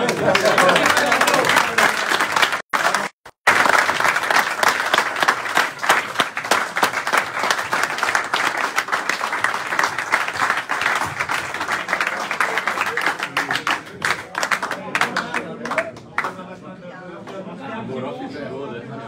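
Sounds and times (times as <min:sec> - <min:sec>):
small audience applauding: 0:00.0 - 0:16.6.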